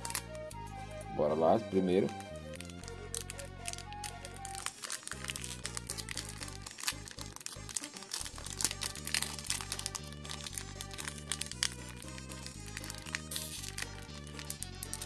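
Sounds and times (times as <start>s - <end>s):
background music with bass line: 0.0s - 15.0s
foil wrapper crinkling: 2.0s - 15.0s.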